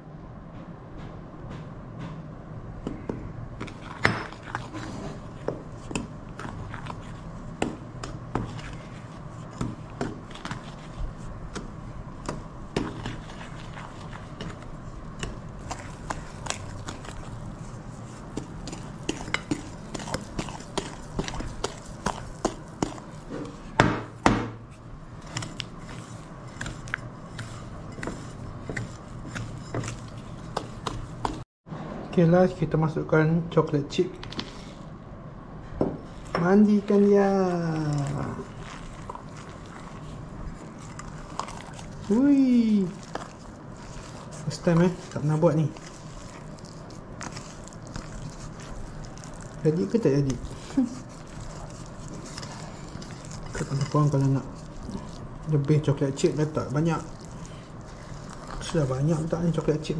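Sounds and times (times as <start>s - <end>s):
spatula stirring cookie dough: 3.6s - 31.4s, 36.0s - 59.9s.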